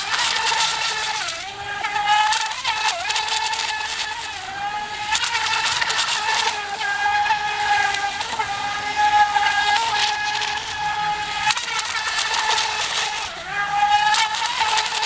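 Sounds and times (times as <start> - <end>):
model boat motor whining: 0.0 - 15.0.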